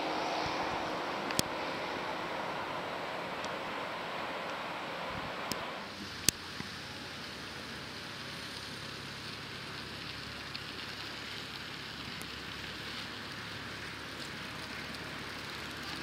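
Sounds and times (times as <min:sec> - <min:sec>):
distant propeller plane engine drone: 0:00.0 - 0:16.0
hiss: 0:00.0 - 0:16.0.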